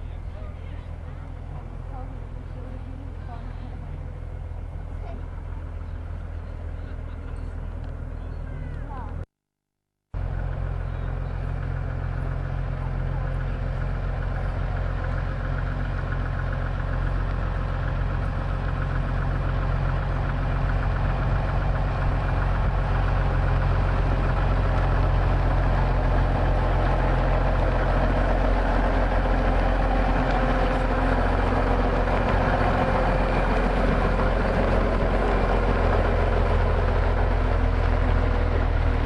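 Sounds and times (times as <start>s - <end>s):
diesel truck engine running: 0.0s - 9.3s, 10.1s - 39.0s.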